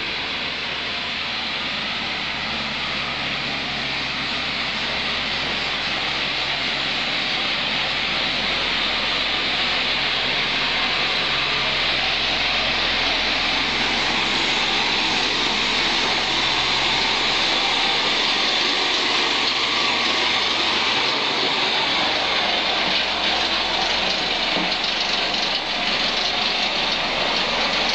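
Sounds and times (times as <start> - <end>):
heavy machinery engine hissing: 0.0 - 27.9.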